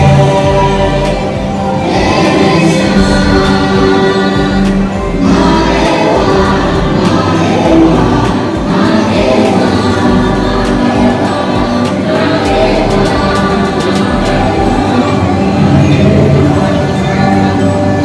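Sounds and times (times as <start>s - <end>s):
choir singing over held chords: 0.0s - 18.0s.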